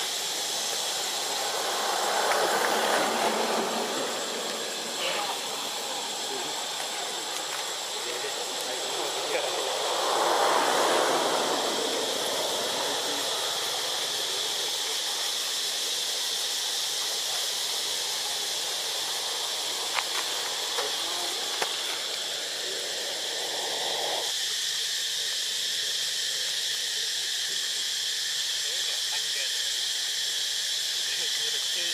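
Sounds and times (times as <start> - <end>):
insects droning: 0.0 - 31.9.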